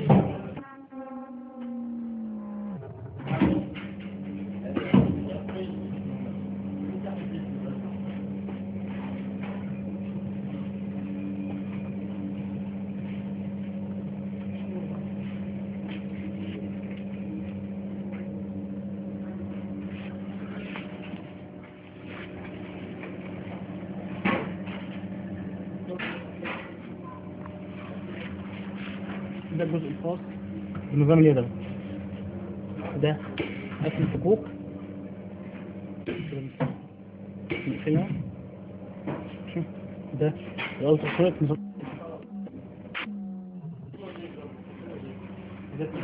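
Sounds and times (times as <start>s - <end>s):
machine humming: 0.0s - 46.0s.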